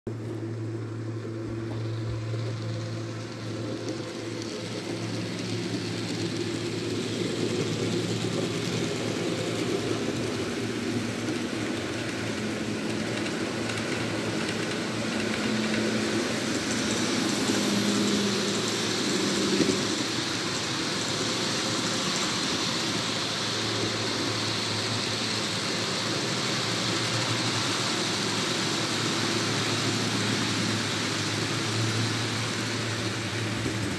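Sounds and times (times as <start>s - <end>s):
model train running on track: 0.1s - 33.9s.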